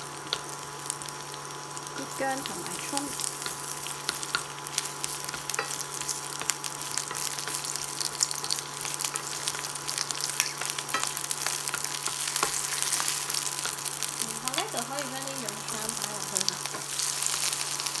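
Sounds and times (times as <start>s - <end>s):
food sizzling in oil: 0.0s - 18.0s
steady low hum: 0.0s - 18.0s.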